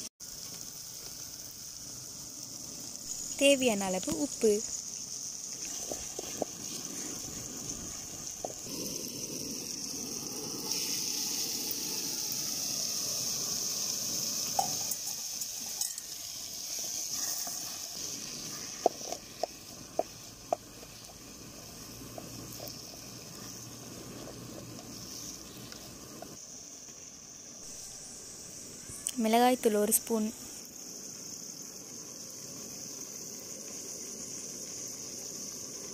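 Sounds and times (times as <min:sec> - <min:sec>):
food sizzling in a pan: 0:00.0 - 0:35.9.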